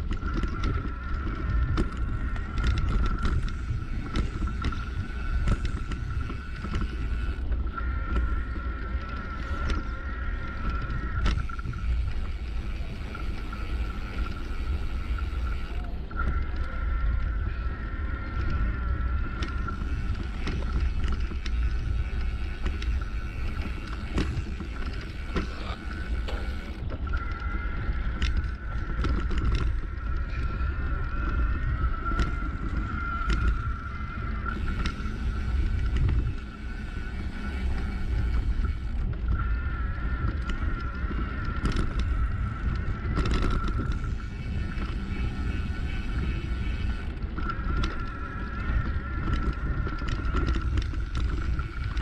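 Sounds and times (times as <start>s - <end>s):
steady high whine: 0.0s - 52.0s
wind buffeting microphone: 0.0s - 52.0s.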